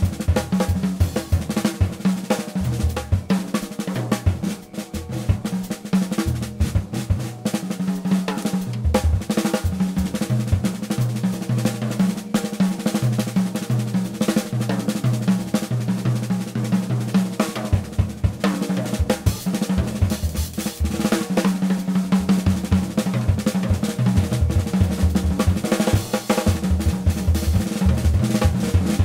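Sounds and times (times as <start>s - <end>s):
rapid drum kit hits: 0.0s - 29.0s.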